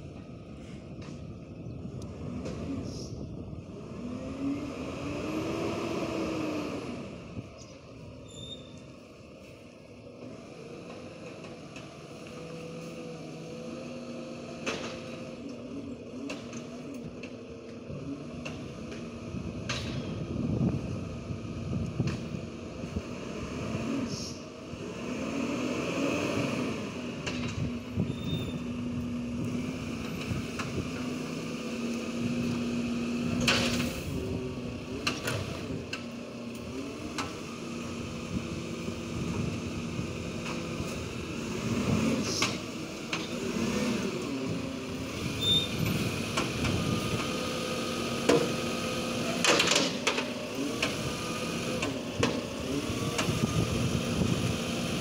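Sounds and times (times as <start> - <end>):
garbage truck diesel engine running: 4.6 - 55.0.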